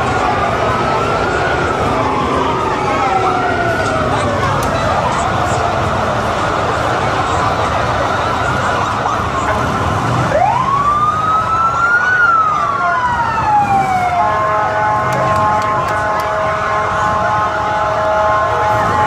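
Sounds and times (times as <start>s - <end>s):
crowd noise: 0.0s - 19.0s
police siren wailing: 0.0s - 19.0s.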